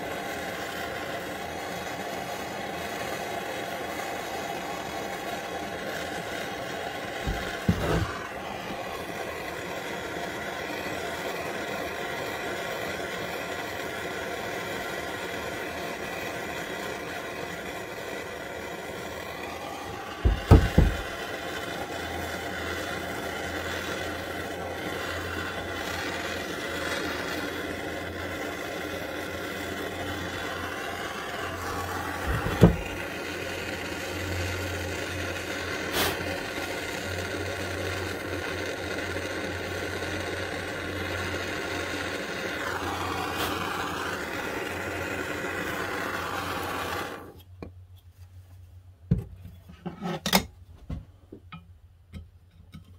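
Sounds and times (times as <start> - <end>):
gas torch flame burning: 0.0 - 48.0.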